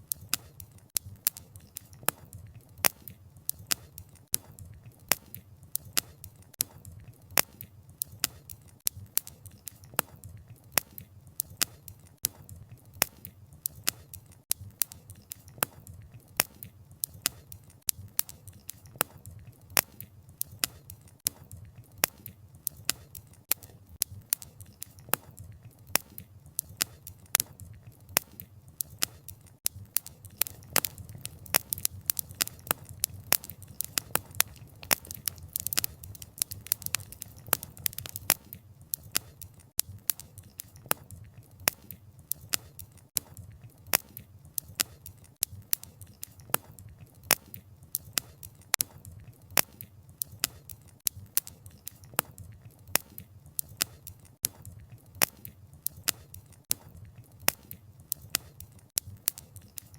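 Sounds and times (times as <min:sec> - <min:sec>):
low rumble of burning fire: 0:00.0 - 0:59.9
wood fire crackling and popping: 0:00.0 - 0:59.9.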